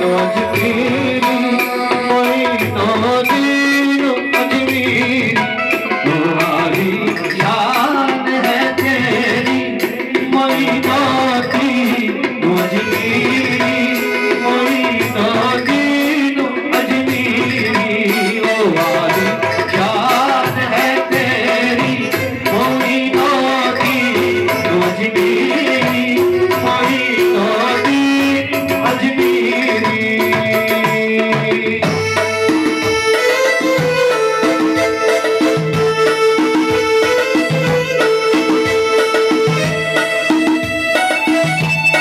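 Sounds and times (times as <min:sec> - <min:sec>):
keyboard melody: 0:00.0 - 0:42.0
person singing: 0:00.0 - 0:42.0
tabla playing a rhythm: 0:00.0 - 0:42.0.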